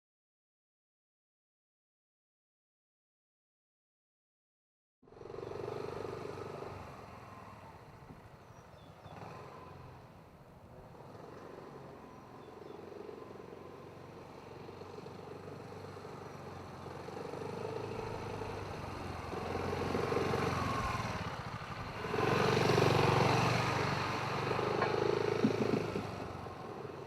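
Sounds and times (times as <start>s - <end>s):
scooter engine running: 5.1s - 27.0s.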